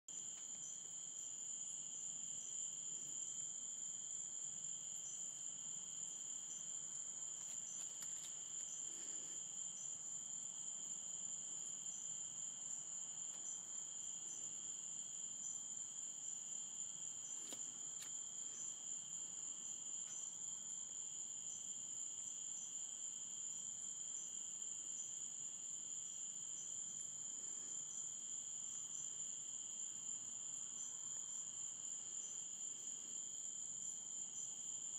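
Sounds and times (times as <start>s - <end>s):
crickets trilling: 0.1s - 34.9s
insect chirps: 0.1s - 34.9s.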